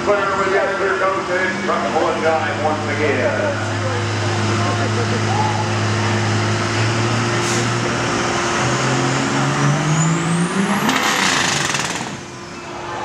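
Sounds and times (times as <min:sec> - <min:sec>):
diesel engine revving under load: 0:00.0 - 0:13.0.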